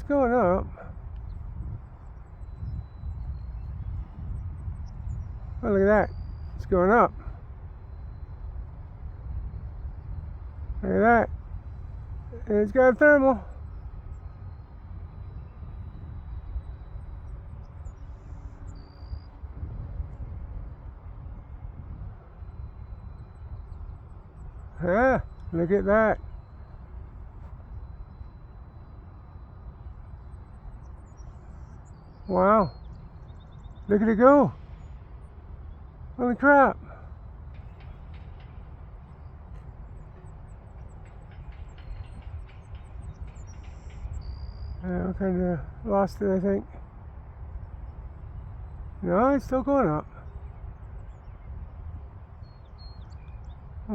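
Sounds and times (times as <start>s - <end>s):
faint high chirps: 0.0s - 53.9s
faint hum: 0.0s - 53.9s
light wind on microphone: 0.0s - 53.9s.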